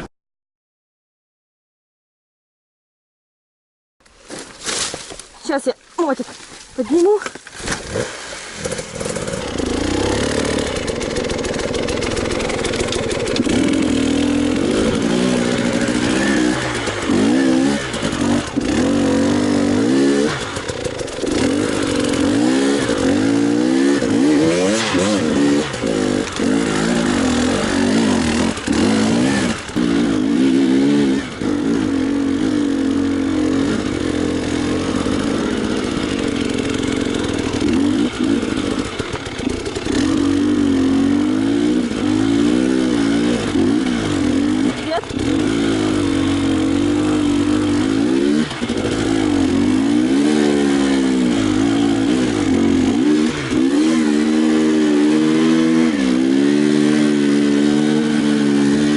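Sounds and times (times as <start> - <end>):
motorcycle engine revving: 6.9 - 58.9.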